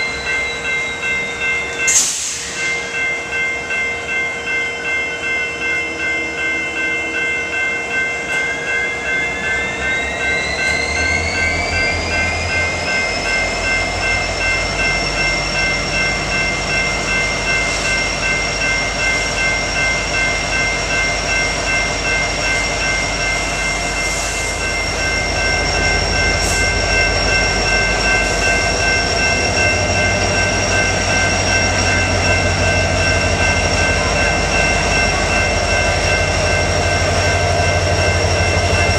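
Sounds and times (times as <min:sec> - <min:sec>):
grade crossing bells: 0:00.0 - 0:38.9
train rolling on tracks: 0:00.0 - 0:38.9.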